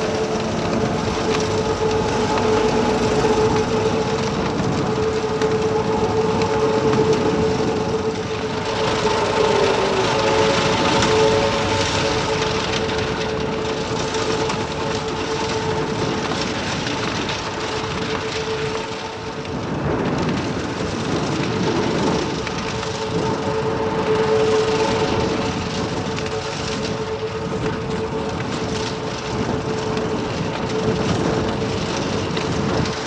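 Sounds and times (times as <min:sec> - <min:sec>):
constant high whine: 0:00.0 - 0:33.0
diesel engine running under load: 0:00.0 - 0:33.0.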